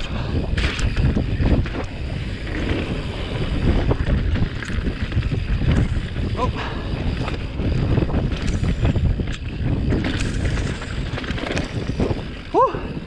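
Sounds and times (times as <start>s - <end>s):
bike rattling clicks and knocks: 0.0s - 13.0s
wind rushing over microphone: 0.0s - 13.0s
tyres rumbling on dirt: 0.5s - 12.5s.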